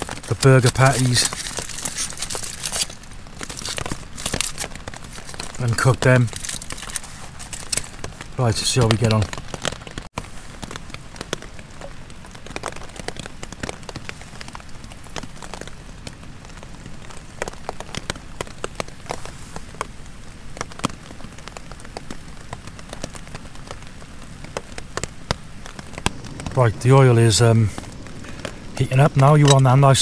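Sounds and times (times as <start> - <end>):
heavy rain on a tent: 0.0 - 30.0.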